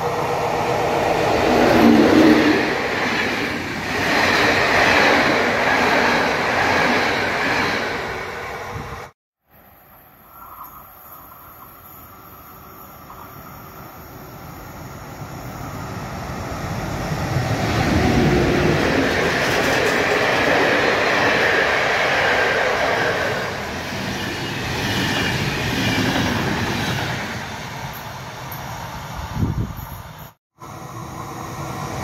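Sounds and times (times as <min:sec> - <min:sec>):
train passing on rails: 0:00.0 - 0:32.0.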